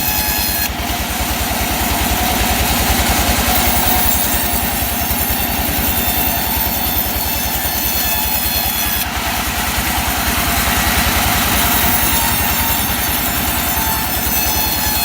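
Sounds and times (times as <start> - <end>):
saw blade cutting wood: 0.0 - 15.0
sawmill engine pulsing: 0.0 - 15.0.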